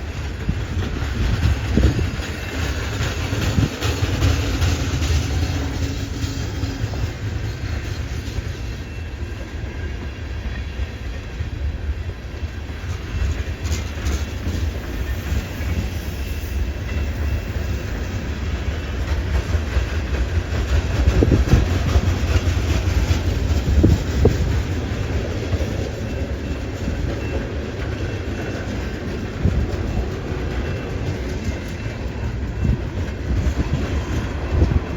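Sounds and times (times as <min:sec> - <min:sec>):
clickety-clack over rail joints: 0:00.0 - 0:34.9
freight train wheels rumbling: 0:00.0 - 0:34.9
loud train knocks: 0:00.0 - 0:34.9.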